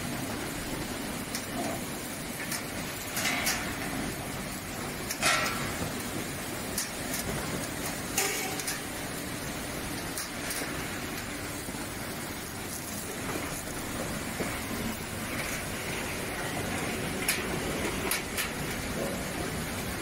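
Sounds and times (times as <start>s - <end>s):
sorting machine running: 0.0s - 20.0s.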